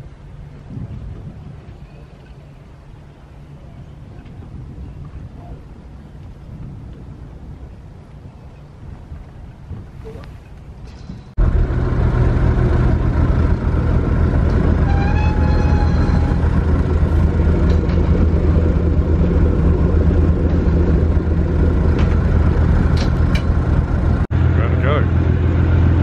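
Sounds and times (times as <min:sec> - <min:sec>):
ferry engine humming: 0:00.0 - 0:26.0
wind: 0:00.0 - 0:26.0.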